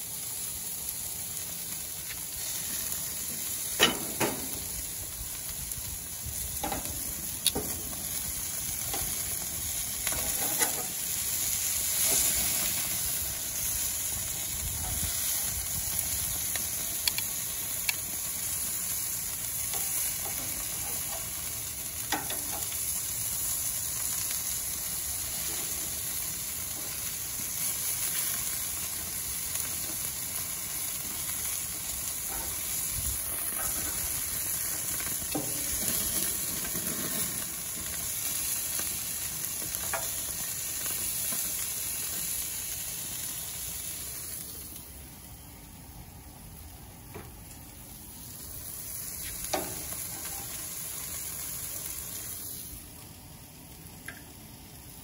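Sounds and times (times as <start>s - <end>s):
meat sizzling on a grill: 0.0s - 55.0s.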